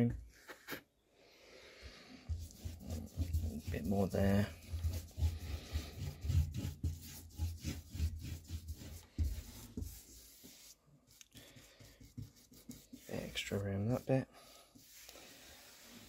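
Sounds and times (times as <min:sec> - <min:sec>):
paintbrush scrubbing strokes: 0:02.0 - 0:16.0.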